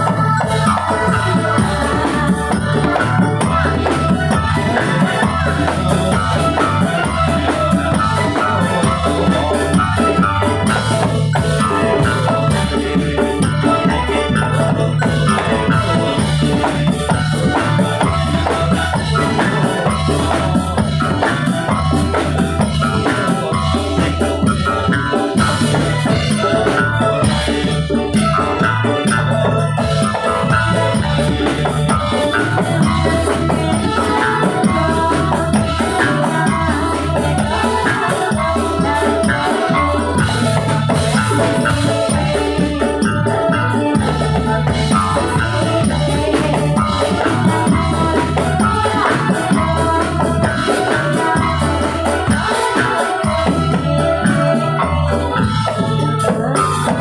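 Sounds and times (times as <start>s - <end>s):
drums: 0.0s - 57.0s
rattling percussion: 0.0s - 57.0s.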